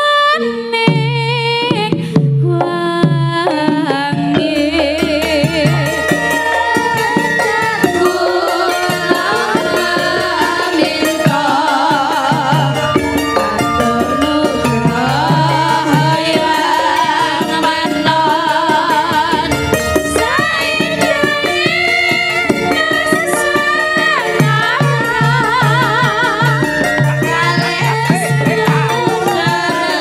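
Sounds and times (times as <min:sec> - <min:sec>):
women singing with vibrato: 0:00.0 - 0:30.0
drum strokes: 0:00.9 - 0:30.0
struck metal notes: 0:03.5 - 0:30.0
gamelan ensemble playing: 0:04.3 - 0:30.0.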